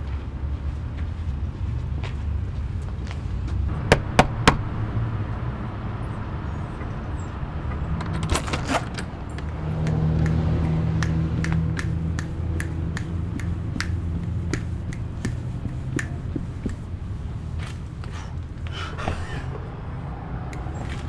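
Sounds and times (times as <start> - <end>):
low background rumble: 3.5 - 21.0.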